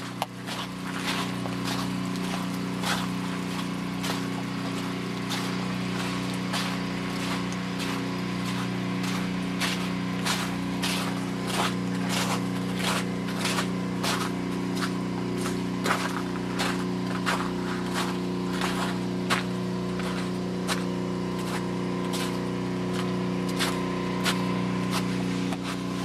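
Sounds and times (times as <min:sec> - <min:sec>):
footsteps crunching on ice: 0:00.0 - 0:26.0
small engine humming: 0:00.0 - 0:26.0.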